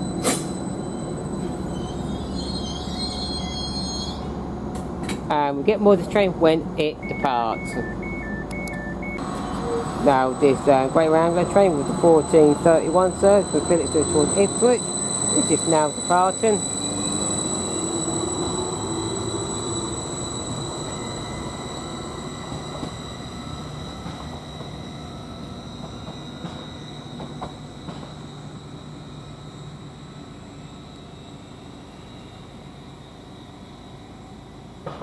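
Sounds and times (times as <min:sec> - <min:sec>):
train pulling away: 0:00.0 - 0:05.2, 0:07.6 - 0:35.0.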